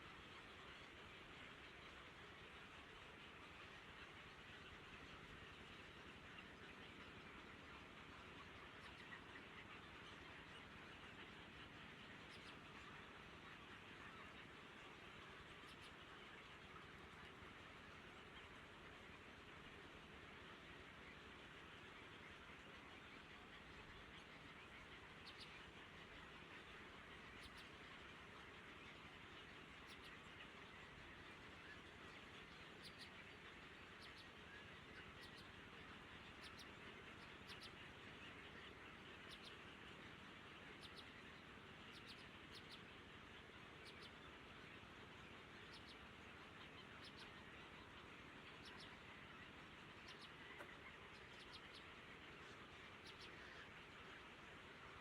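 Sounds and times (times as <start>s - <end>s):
faint bird chirps: 0.2s - 19.8s, 20.4s - 55.0s.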